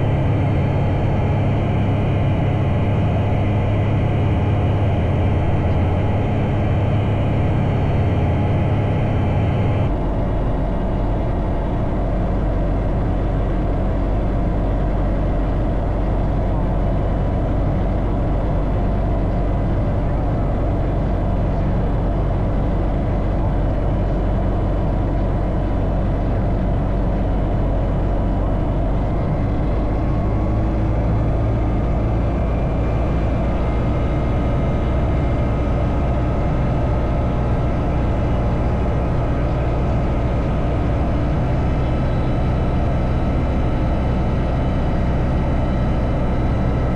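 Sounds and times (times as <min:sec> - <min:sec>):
light aircraft propeller engine: 0:00.0 - 0:46.9.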